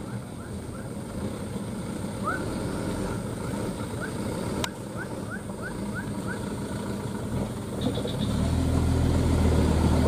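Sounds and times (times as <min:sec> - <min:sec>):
truck diesel engine running low: 0:00.0 - 0:10.0.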